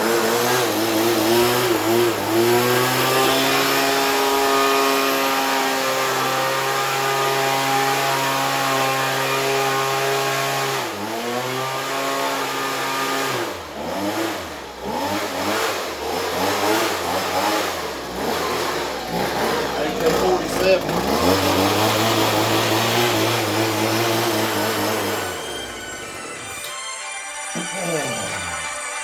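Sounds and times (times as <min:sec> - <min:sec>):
leaf blower engine revving: 0:00.0 - 0:26.8, 0:27.6 - 0:29.0.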